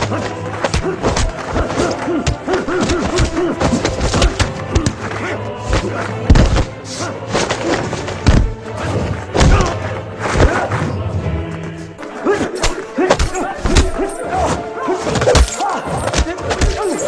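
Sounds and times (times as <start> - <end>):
film score with low note: 0.0 - 17.0.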